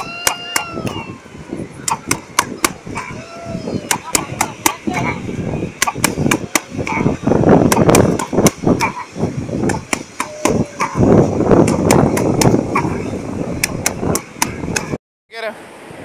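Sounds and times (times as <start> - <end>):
wind gusts on microphone: 0.0 - 16.0.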